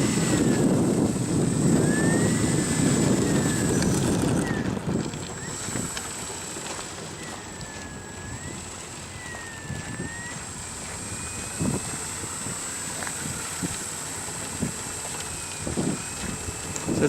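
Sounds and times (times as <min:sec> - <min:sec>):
model airplane motor whining: 0:00.0 - 0:17.0
wind buffeting microphone: 0:00.0 - 0:17.0.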